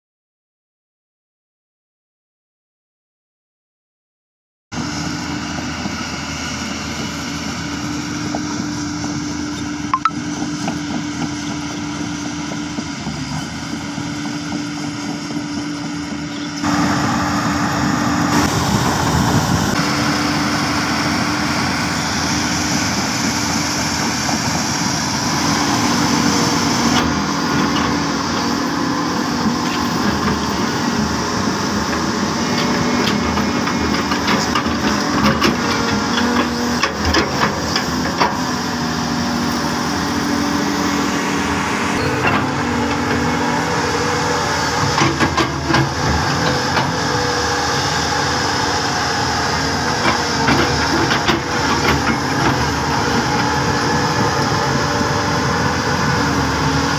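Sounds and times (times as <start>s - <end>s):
excavator diesel engines droning: 4.8s - 56.9s.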